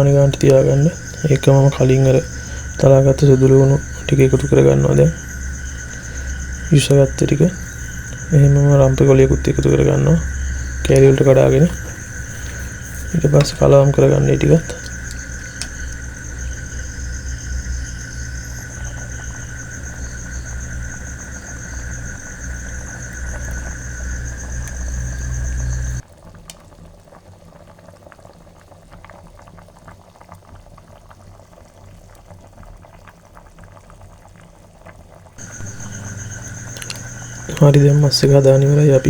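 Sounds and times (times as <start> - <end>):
curry bubbling in a pot: 0.0 - 39.0.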